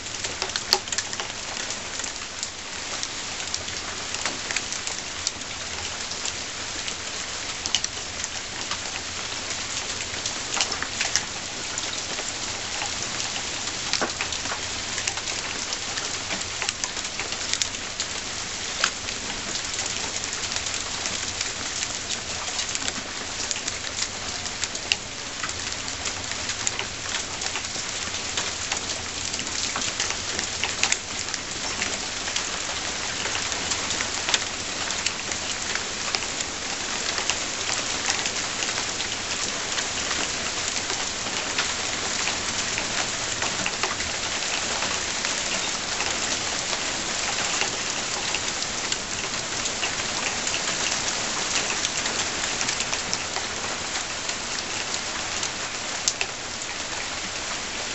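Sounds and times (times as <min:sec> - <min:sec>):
rain hiss: 0:00.0 - 0:57.9.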